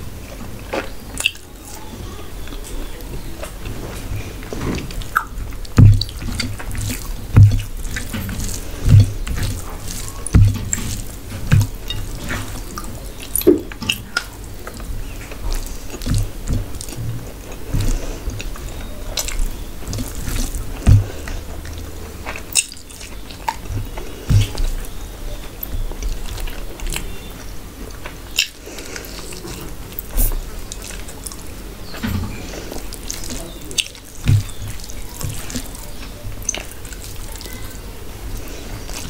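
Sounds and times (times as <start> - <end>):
chewing and wet mouth sounds: 0.0 - 39.0
fingers squelching rice in gravy: 0.7 - 27.4, 28.0 - 39.0.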